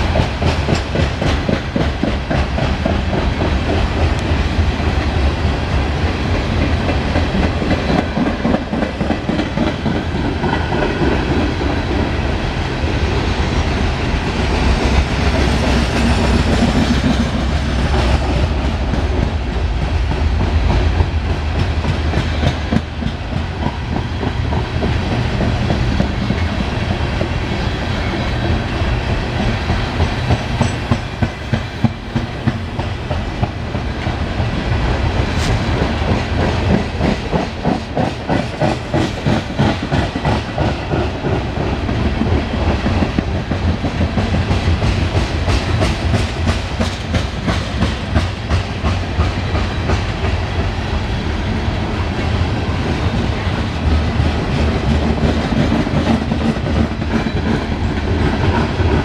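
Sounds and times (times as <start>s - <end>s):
clickety-clack over rail joints: 0.0s - 59.0s
train wheels rumbling on rail: 0.0s - 59.0s.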